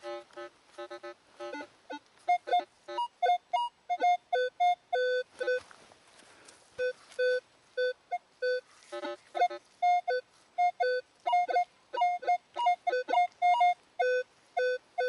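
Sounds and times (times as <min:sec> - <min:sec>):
metal detector beeps: 0:00.8 - 0:05.7, 0:06.8 - 0:15.0.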